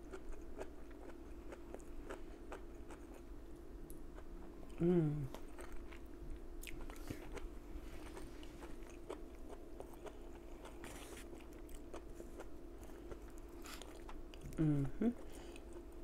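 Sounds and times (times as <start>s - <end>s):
close-up chewing: 0.0s - 14.6s
faint steady hum: 0.0s - 16.0s.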